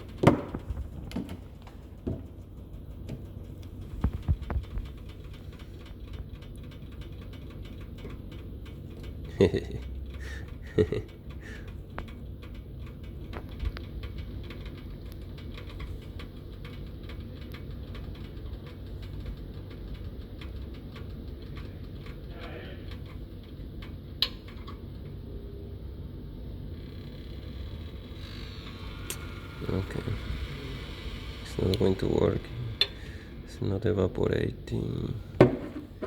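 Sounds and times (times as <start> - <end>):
steady low hum: 0.0 - 36.0
solder crackling ticks: 1.4 - 36.0.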